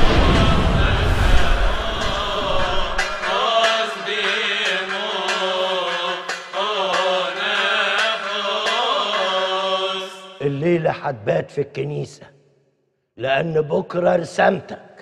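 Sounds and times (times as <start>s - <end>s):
men chanting a hymn: 0.1s - 12.2s.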